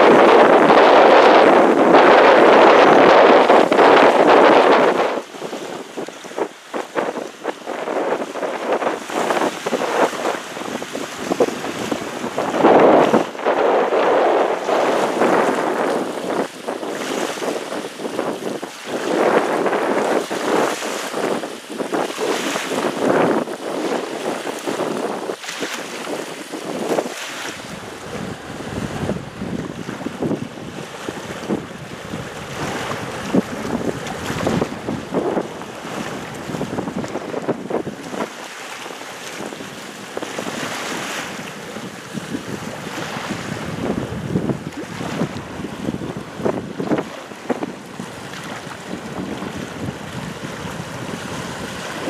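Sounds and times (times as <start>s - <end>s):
choppy sea: 0.0s - 52.0s
wind on microphone: 0.0s - 52.0s.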